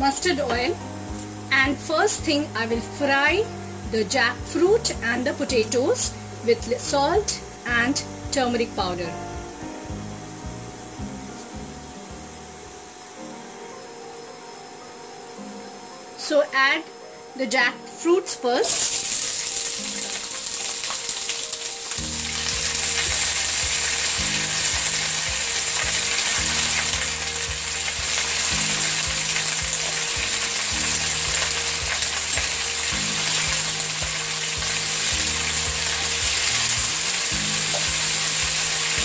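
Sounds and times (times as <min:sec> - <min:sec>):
food sizzling in hot oil: 0:00.0 - 0:16.7, 0:18.5 - 0:39.0
low background music: 0:00.0 - 0:39.0.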